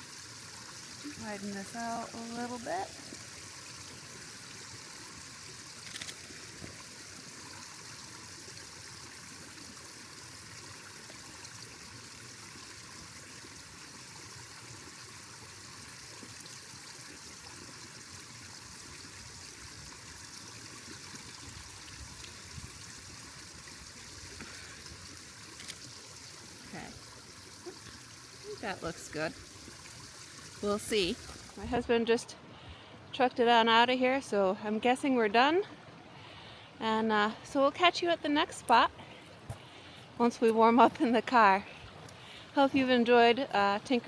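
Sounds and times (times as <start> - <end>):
water trickling under ice: 0.0 - 31.9, 35.6 - 44.0.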